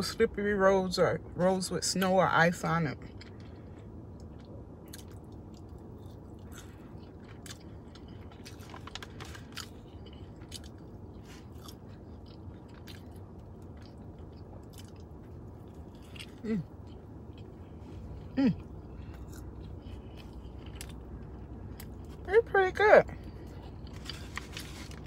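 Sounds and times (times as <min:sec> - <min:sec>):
steady low hum: 0:00.0 - 0:25.0
chewing and crunching food: 0:02.0 - 0:25.0.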